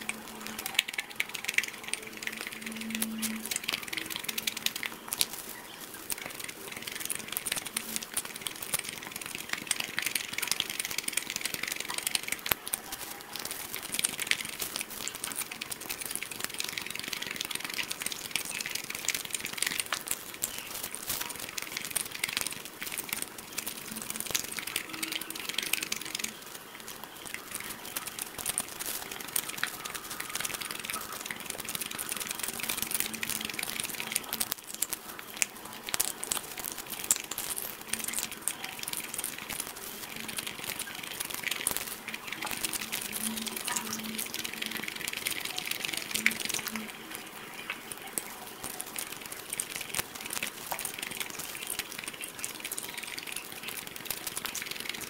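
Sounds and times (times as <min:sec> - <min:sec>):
crackling chewing: 0:00.0 - 0:55.0.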